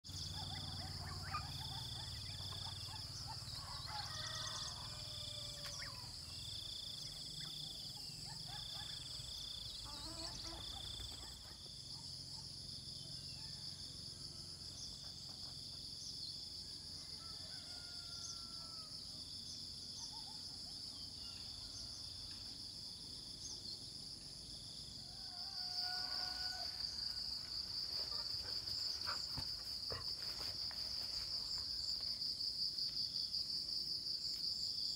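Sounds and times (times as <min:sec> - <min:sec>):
insects chirring: 0:00.1 - 0:14.0, 0:14.8 - 0:34.9.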